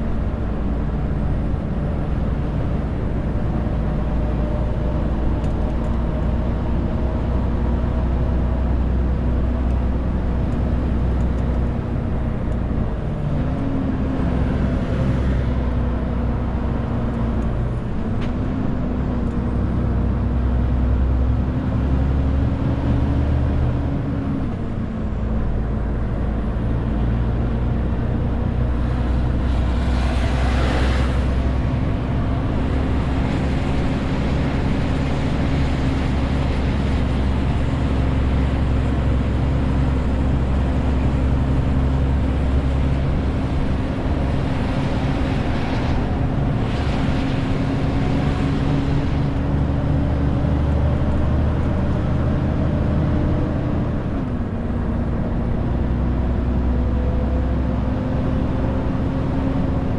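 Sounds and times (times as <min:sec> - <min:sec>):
truck diesel engine driving: 0:00.0 - 0:59.9.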